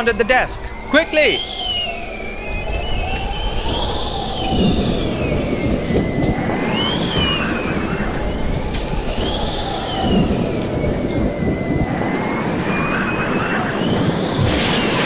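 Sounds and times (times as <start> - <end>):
rumbling wind: 0.0 - 15.0
whistling wind howl: 0.0 - 15.0.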